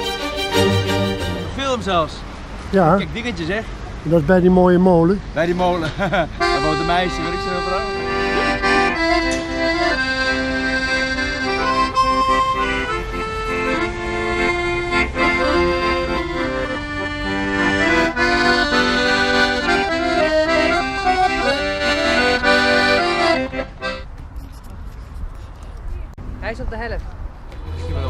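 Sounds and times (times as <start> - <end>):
accordion melody over chords: 0.0 - 3.1, 4.4 - 24.8.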